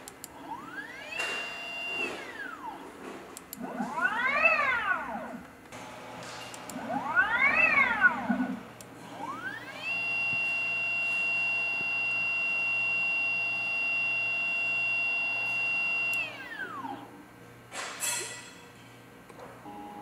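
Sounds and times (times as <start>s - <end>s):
milling machine spindle whine: 0.4s - 2.8s, 3.5s - 17.1s.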